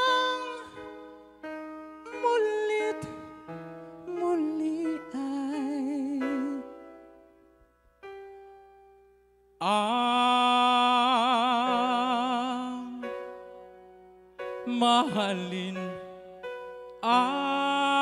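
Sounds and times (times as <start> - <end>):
person singing a ballad: 0.0 - 7.4, 9.6 - 18.0
soft instrumental backing: 0.0 - 10.6, 11.2 - 18.0.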